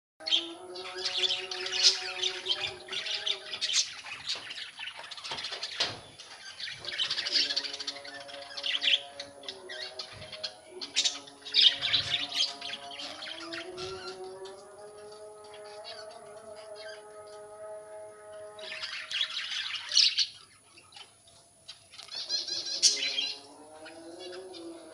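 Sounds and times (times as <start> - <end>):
flock of budgerigars chattering: 0.2 - 17.4, 18.5 - 24.9.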